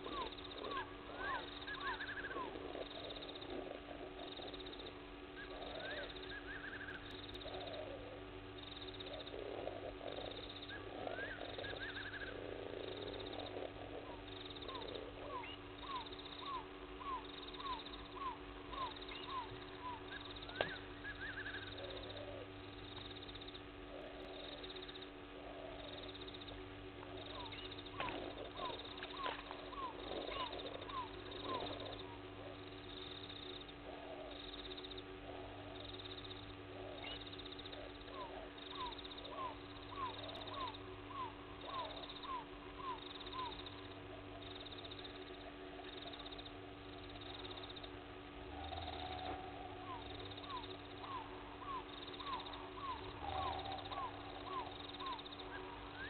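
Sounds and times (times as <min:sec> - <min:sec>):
lower animal calls: 0:00.0 - 0:56.0
steady low hum: 0:00.0 - 0:56.0.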